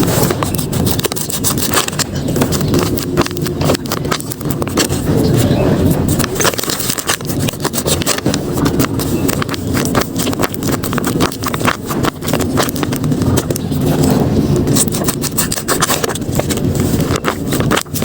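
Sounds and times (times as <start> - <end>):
paper crinkling and rustling: 0.0 - 18.0
steady low rumble: 0.0 - 18.0.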